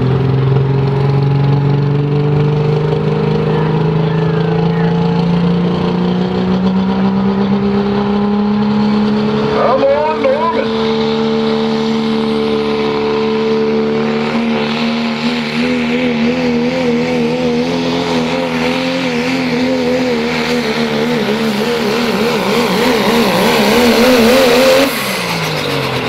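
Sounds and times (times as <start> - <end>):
diesel engine at high revs: 0.0 - 26.0.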